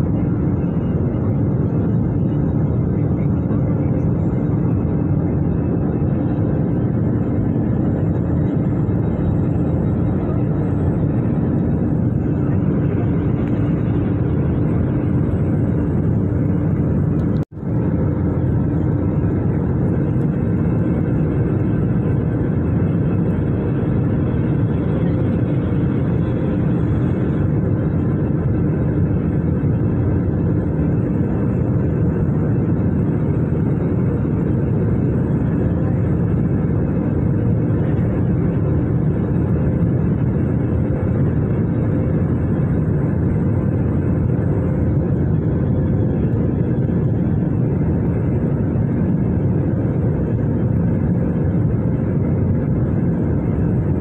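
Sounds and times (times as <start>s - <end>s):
jet engine and airflow roar: 0.0s - 54.0s.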